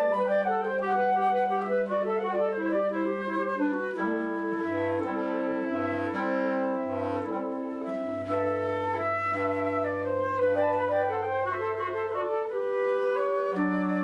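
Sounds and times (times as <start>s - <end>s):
wind band playing chords: 0.0s - 14.0s.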